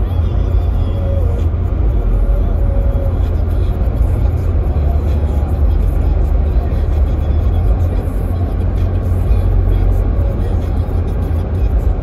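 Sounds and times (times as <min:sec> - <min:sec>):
road rumble and tyre noise: 0:00.0 - 0:12.0.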